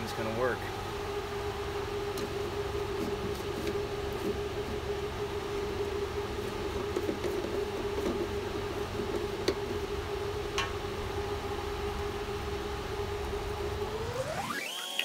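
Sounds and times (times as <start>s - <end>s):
welder humming: 0.0s - 15.0s.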